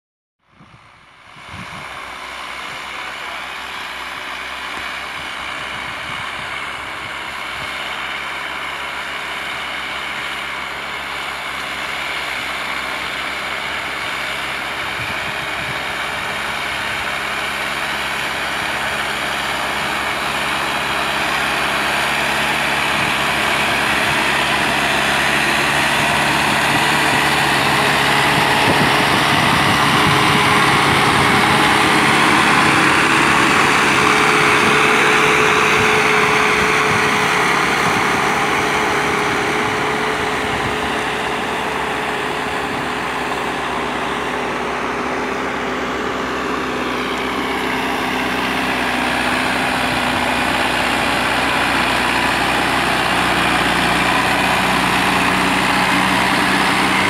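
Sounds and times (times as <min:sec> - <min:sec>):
tractor diesel engine: 0:00.4 - 0:57.0.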